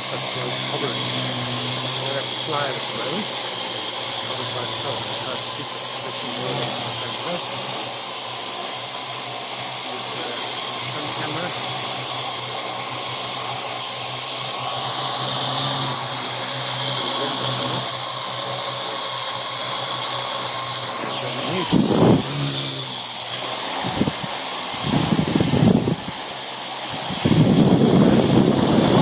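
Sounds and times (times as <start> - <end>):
quadcopter propellers whirring: 0.0 - 29.0.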